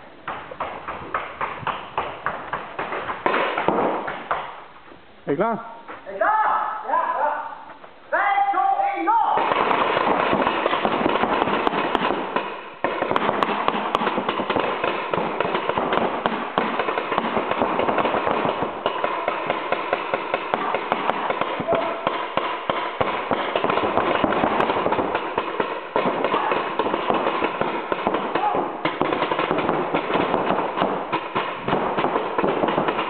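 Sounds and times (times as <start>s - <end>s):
markers firing rapid pops: 0.2s - 4.6s, 9.4s - 33.0s.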